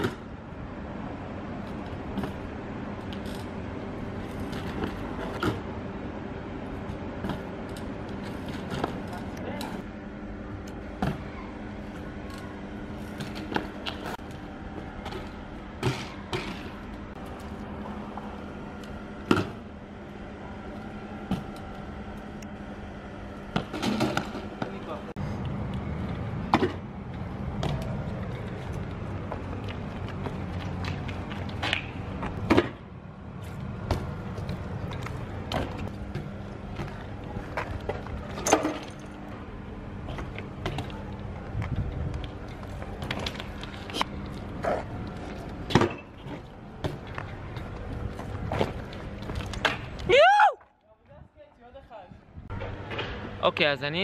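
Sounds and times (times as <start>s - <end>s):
steady low hum: 0.0s - 50.1s, 50.7s - 54.0s
steady low rumble: 0.0s - 50.1s, 51.0s - 54.0s.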